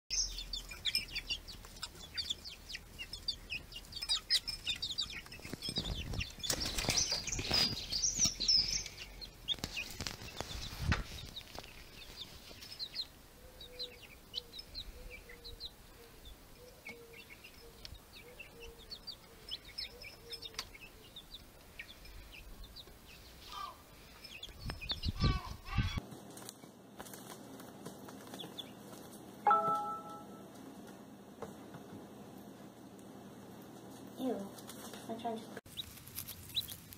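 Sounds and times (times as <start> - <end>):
baby chicks peeping: 0.1 - 36.9.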